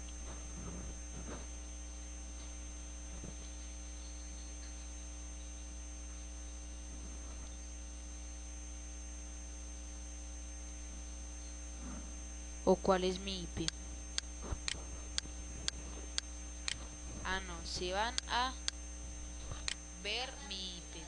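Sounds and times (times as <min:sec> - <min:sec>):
electrical mains hum: 0:00.0 - 0:21.0
faint high whine: 0:00.0 - 0:21.0.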